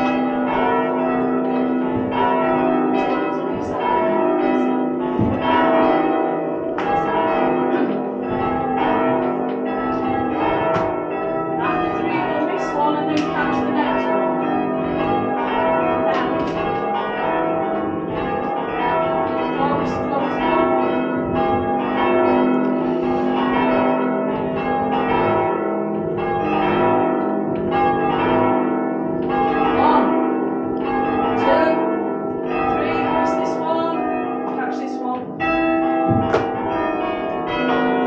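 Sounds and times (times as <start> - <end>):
church bells change-ringing: 0.0 - 38.0.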